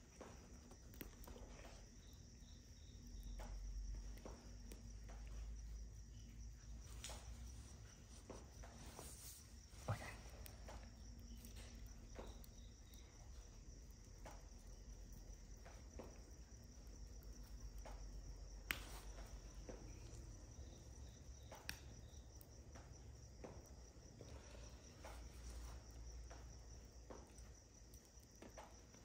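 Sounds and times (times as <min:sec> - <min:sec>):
crickets trilling: 0:00.0 - 0:29.0
log fire crackling and popping: 0:00.0 - 0:29.0.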